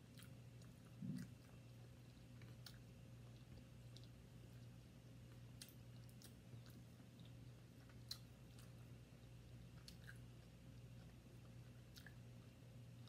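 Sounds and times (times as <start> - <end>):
person chewing food: 0.0 - 12.6
low steady hum: 0.0 - 13.0.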